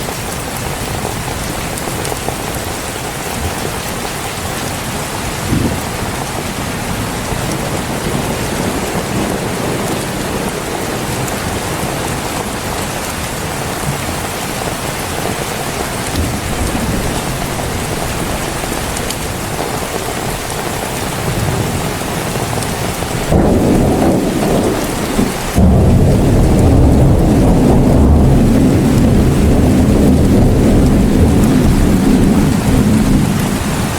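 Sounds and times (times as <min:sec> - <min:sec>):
heavy rain falling: 0:00.0 - 0:33.9
low thunder rumble: 0:05.1 - 0:33.9.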